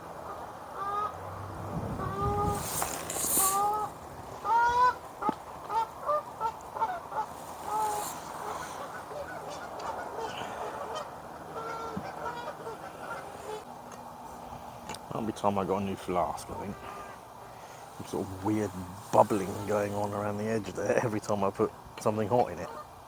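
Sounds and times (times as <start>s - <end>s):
geese honking: 0.0s - 13.7s, 15.6s - 20.9s, 22.1s - 23.0s.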